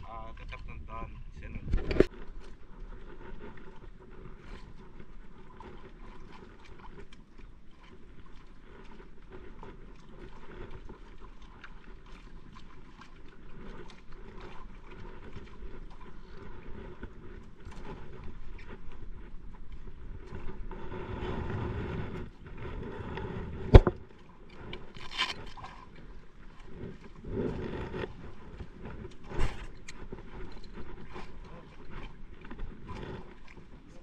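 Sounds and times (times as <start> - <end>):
water washing against hull: 0.0 - 34.0.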